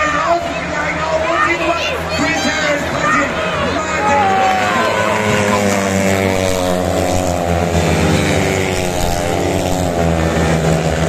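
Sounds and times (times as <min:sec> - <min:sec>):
motorcycle engines revving past: 0:00.0 - 0:11.0.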